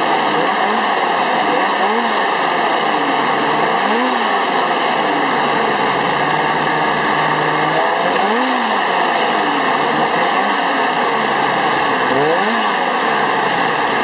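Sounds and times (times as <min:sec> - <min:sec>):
two-stroke snowmobile engine running: 0:00.0 - 0:14.0.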